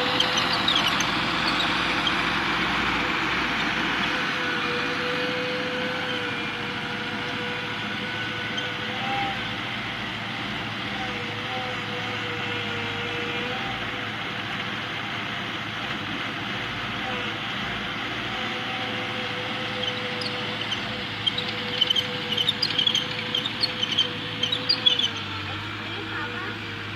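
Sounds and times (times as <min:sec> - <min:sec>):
loader engine running: 0:00.0 - 0:26.9.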